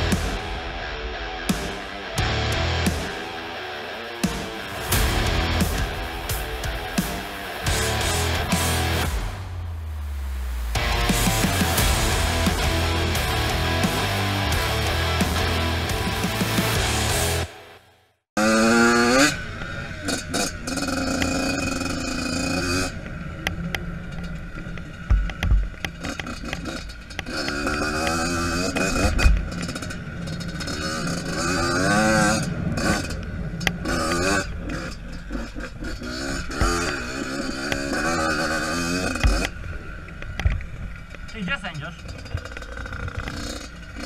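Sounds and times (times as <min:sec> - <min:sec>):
dirt bike engine revving: 0:00.0 - 0:17.8, 0:18.4 - 0:23.2, 0:25.8 - 0:40.3, 0:41.0 - 0:44.0.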